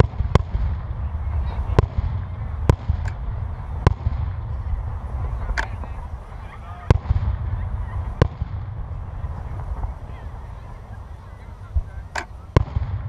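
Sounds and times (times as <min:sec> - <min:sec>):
distant fireworks bangs: 0:00.0 - 0:13.0
steady low rumble: 0:00.0 - 0:13.0.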